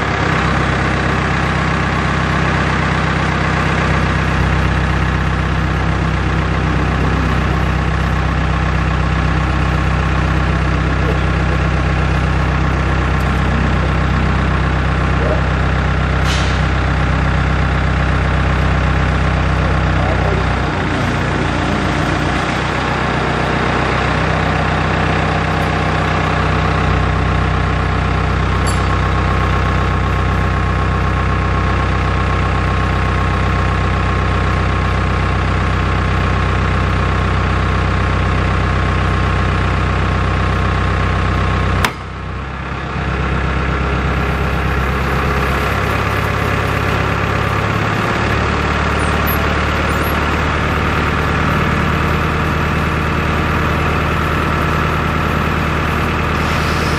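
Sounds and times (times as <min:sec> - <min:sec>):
heavy engine idling: 0:00.0 - 0:56.9.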